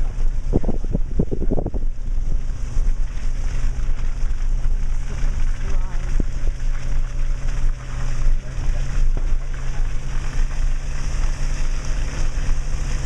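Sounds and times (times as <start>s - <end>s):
car engine and road rumble: 0.0s - 13.0s
tyres crackling on gravel: 0.0s - 13.0s.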